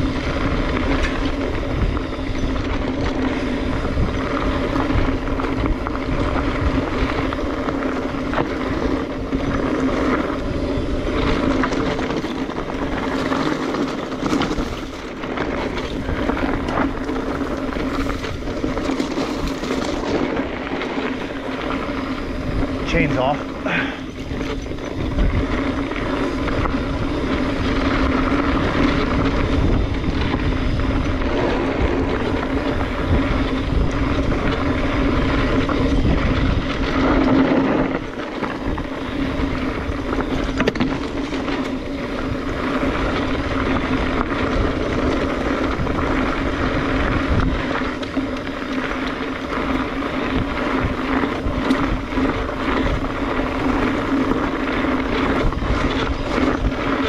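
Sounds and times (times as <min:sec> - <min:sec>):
bike tyre rumble on dirt: 0:00.0 - 0:57.0
hum from moving bike: 0:00.0 - 0:57.0
wind on microphone: 0:00.0 - 0:57.0.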